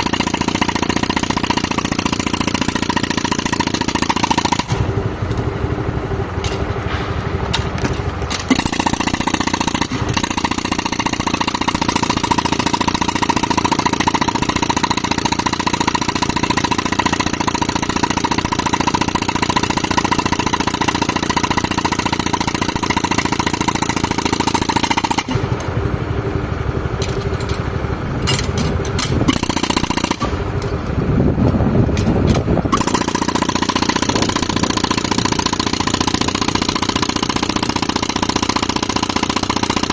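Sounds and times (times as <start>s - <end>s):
air compressor engine running: 0.0s - 39.9s
pneumatic hammer pounding rock: 0.0s - 39.9s.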